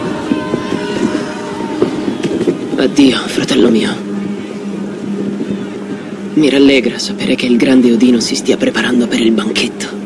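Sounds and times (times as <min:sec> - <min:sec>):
noisy background: 0:00.0 - 0:10.0
sustained low orchestral tones: 0:00.0 - 0:10.0.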